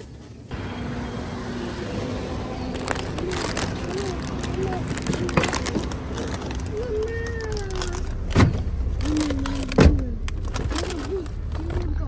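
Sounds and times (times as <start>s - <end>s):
road rumble inside car: 0.4s - 12.0s.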